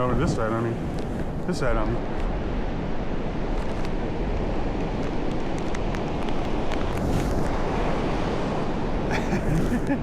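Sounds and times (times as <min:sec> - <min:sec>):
ocean surf: 0:00.0 - 0:10.0
wind buffeting microphone: 0:00.0 - 0:10.0.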